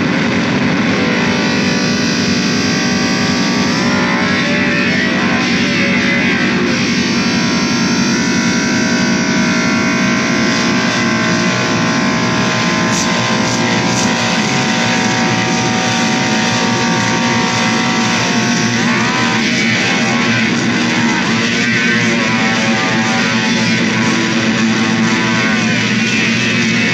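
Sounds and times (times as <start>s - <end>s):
distorted electric guitar: 0.0s - 26.9s.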